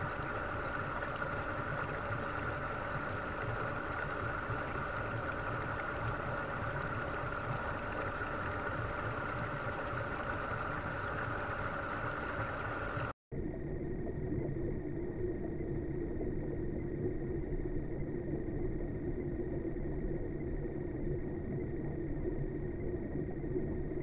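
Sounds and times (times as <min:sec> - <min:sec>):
dull hum: 0:00.0 - 0:24.0
underwater aquarium pump hum: 0:00.0 - 0:24.0.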